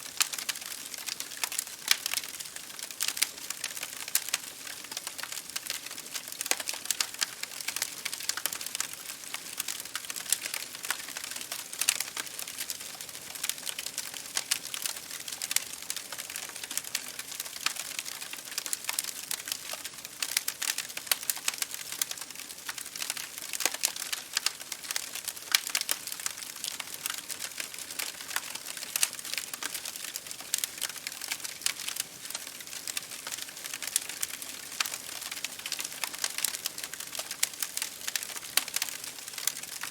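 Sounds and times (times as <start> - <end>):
bonfire crackling: 0.1 - 39.9.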